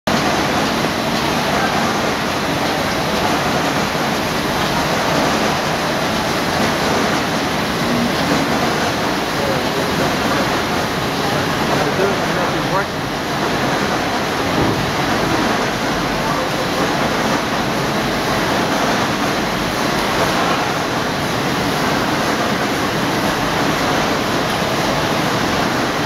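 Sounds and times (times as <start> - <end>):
printing press running: 0.1 - 26.0.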